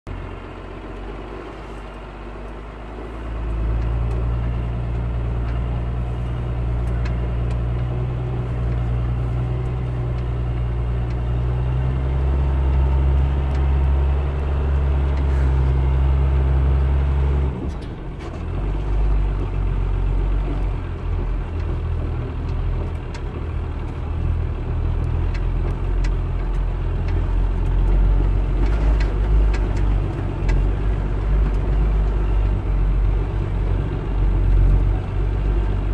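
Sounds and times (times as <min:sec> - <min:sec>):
knocks and rattles from bumpy ride: 0:00.1 - 0:35.9
truck engine droning: 0:00.1 - 0:35.9.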